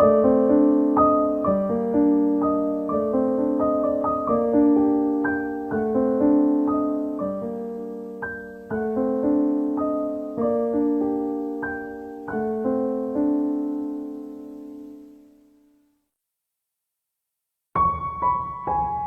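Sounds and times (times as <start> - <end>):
gentle piano chords: 0.0 - 15.8, 17.8 - 19.0.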